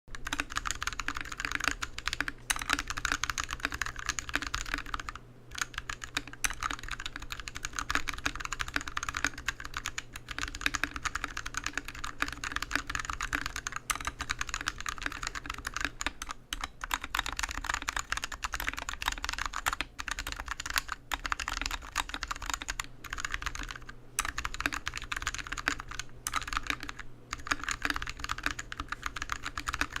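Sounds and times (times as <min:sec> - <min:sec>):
mechanical keyboard typing: 0:00.1 - 0:30.0.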